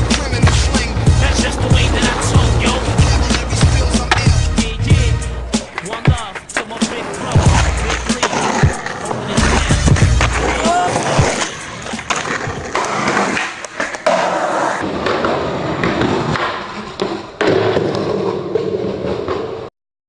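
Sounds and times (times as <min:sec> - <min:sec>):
skateboard clacks: 0:00.0 - 0:04.4, 0:05.6 - 0:19.7
skateboard wheels rolling on concrete: 0:00.0 - 0:19.7.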